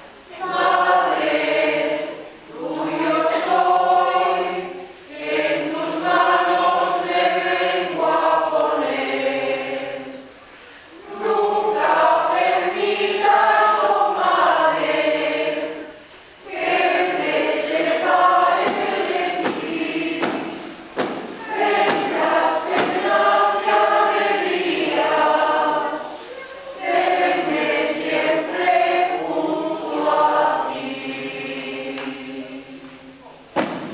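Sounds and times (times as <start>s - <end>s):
church choir singing a hymn: 0.0s - 33.9s.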